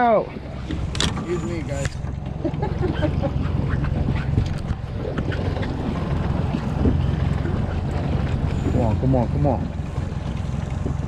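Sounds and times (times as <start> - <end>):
outboard motor running: 0.0 - 11.0
wind buffeting microphone: 0.0 - 11.0.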